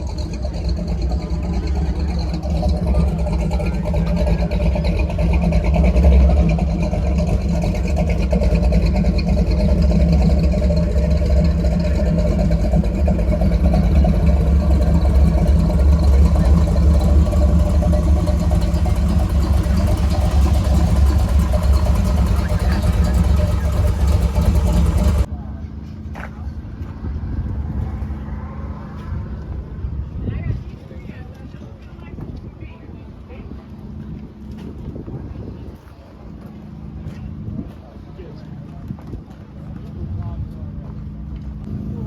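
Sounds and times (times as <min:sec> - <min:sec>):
car engine rumbling: 0:00.0 - 0:42.0.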